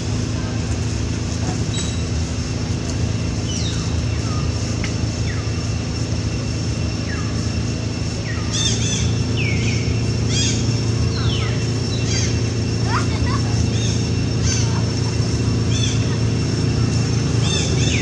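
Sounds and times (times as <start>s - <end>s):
low rumble and hum: 0.0s - 18.0s
birds chirping: 1.6s - 18.0s.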